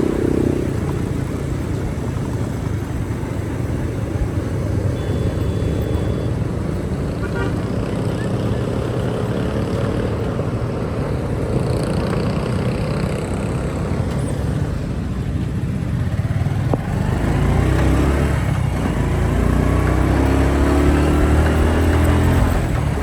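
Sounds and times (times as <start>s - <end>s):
motorcycle engine running: 0.0s - 23.0s
road noise: 0.0s - 23.0s.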